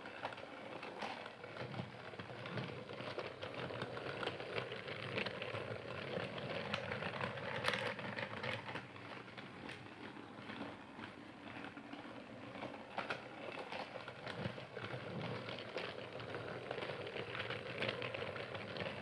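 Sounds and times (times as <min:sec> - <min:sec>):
toy train motor hum: 0:00.0 - 0:19.0
toy train rattling clatter: 0:00.0 - 0:19.0.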